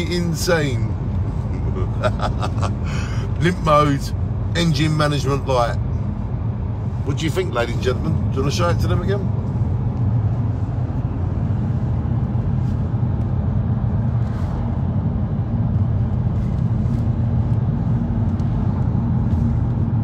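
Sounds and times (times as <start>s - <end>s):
car engine and road drone: 0.0s - 20.0s.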